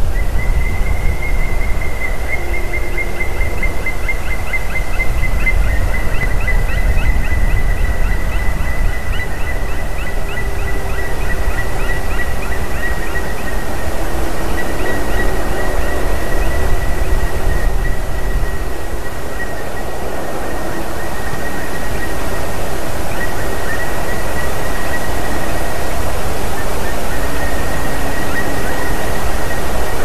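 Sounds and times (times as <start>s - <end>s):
steady high whistle-like tone: 0.0s - 30.0s
wind rumble on microphone: 0.0s - 30.0s.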